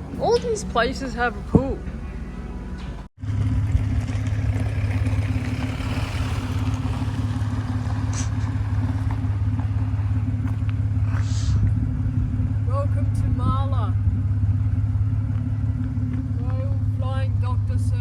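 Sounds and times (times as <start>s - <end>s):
car engine and road drone: 0.0s - 18.0s.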